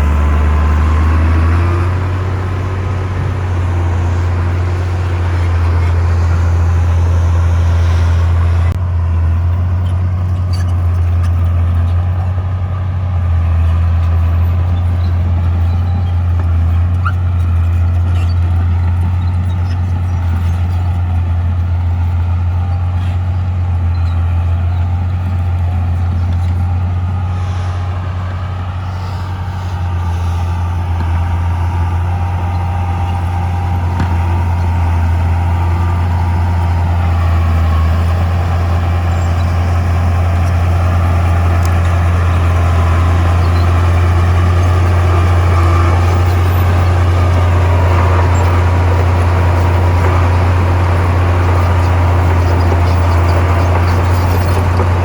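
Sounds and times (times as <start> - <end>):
diesel engine deep drone: 0.0 - 55.0.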